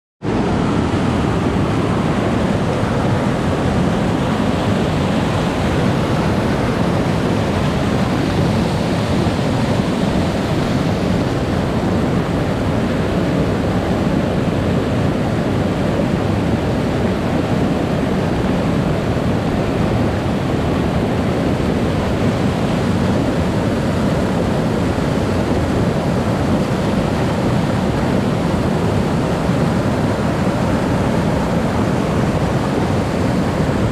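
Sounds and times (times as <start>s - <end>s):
floodwater rushing over boulders: 0.2s - 33.9s.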